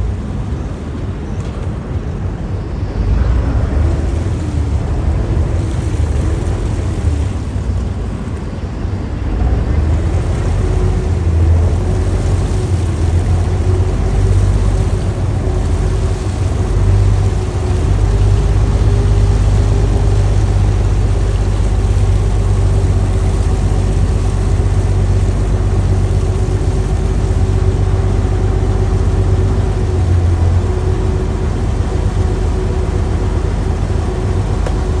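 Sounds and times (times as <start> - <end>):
boat engine rumbling: 0.0 - 35.0.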